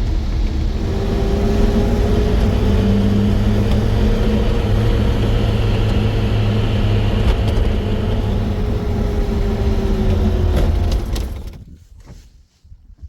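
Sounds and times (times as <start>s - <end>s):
vehicle engine running: 0.0s - 11.5s.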